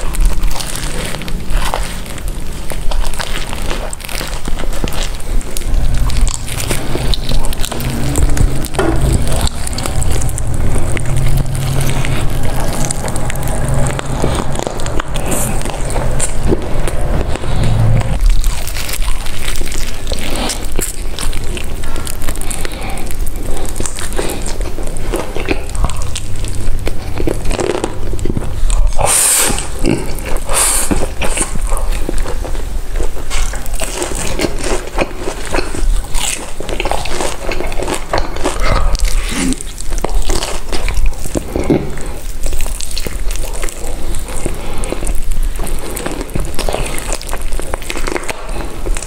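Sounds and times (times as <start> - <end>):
crunching and chewing fried food: 0.0 - 49.0.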